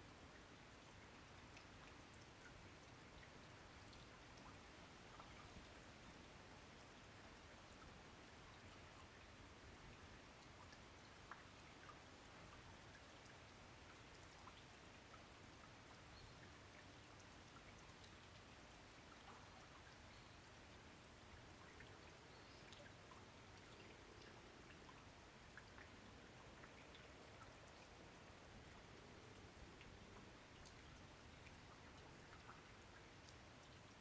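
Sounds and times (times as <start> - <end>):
faint rain falling: 0.0 - 34.0.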